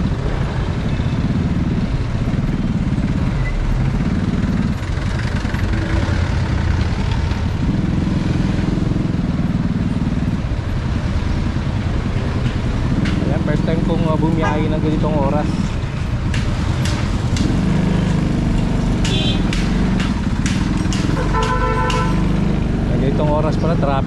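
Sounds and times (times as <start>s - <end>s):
motorcycle engine running: 0.0s - 24.0s
vehicle engines in traffic: 0.0s - 24.0s.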